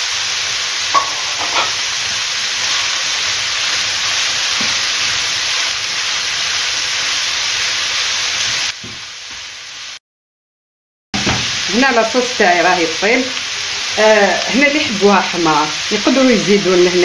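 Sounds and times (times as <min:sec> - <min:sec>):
food sizzling in frying pan: 0:00.0 - 0:10.0, 0:11.2 - 0:17.0.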